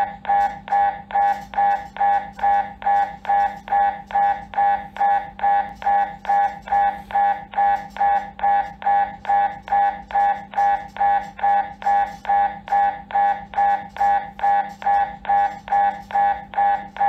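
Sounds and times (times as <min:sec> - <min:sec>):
buzzy pulsing beeps: 0:00.0 - 0:17.0
steady low hum: 0:00.0 - 0:17.0.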